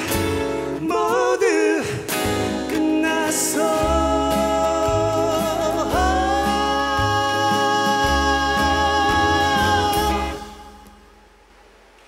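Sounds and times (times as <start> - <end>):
man singing a slow ballad: 0.0 - 11.0
strummed acoustic guitars: 0.0 - 11.3.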